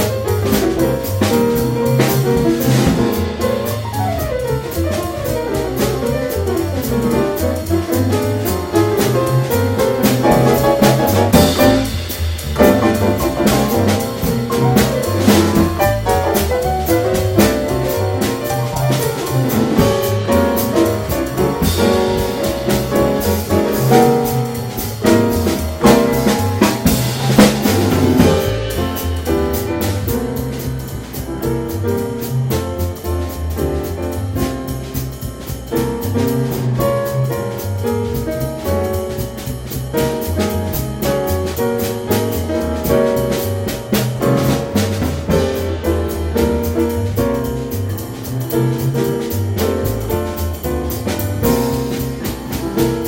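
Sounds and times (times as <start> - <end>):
bass: 0.0 - 53.0
drum and cymbal strikes: 0.0 - 53.0
piano: 0.0 - 53.0.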